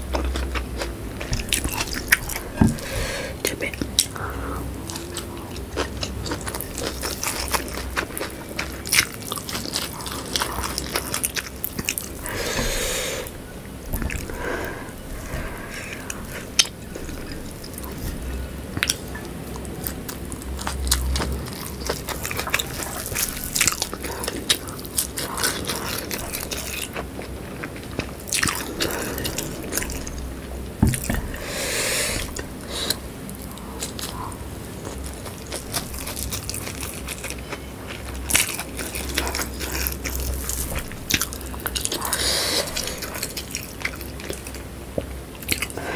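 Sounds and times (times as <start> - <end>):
crunchy biting and chewing: 0.0 - 4.1, 4.8 - 45.9.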